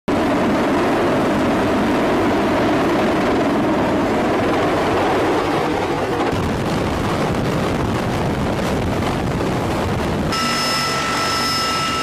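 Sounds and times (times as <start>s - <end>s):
helicopter rotor and turbine noise: 0.1s - 12.0s.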